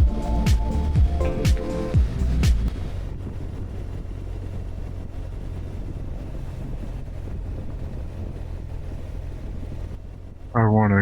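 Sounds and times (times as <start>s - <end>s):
motorcycle engine drone: 0.0s - 11.0s
wind rushing on microphone: 0.0s - 11.0s.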